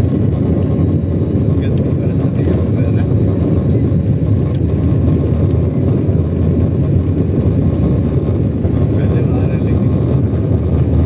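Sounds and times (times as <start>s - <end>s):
jet engines and wheels rumbling: 0.0s - 11.0s.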